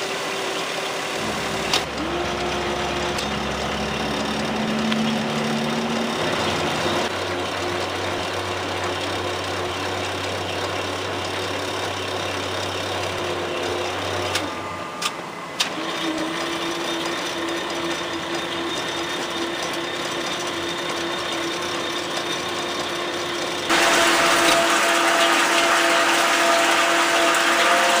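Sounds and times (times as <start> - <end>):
planer machinery drone: 0.0 - 28.0.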